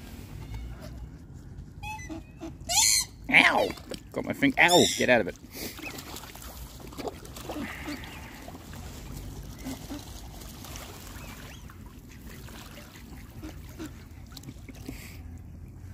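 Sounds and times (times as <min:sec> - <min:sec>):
water splashing and lapping: 0:00.0 - 0:15.9
waterbird calls: 0:00.4 - 0:15.0.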